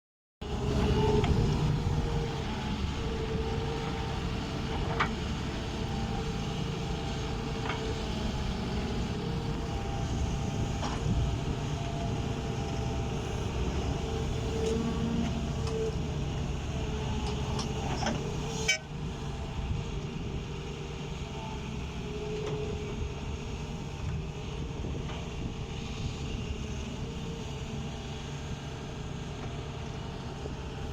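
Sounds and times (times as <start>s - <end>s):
heavy diesel machinery running: 0.4s - 30.9s.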